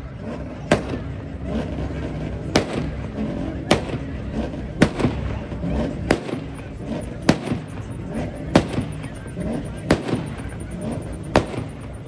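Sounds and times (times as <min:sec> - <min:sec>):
car exhaust banging: 0:00.0 - 0:12.0
low engine rumble: 0:00.0 - 0:12.0.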